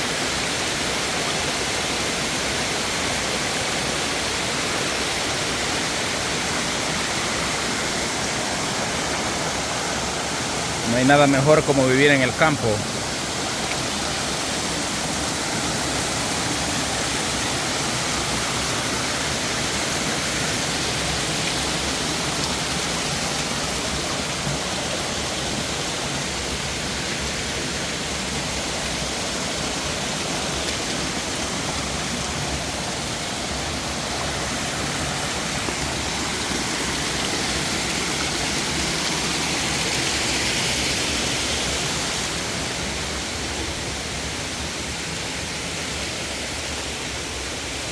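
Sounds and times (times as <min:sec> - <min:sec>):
flowing water rushing: 0:00.0 - 0:47.9.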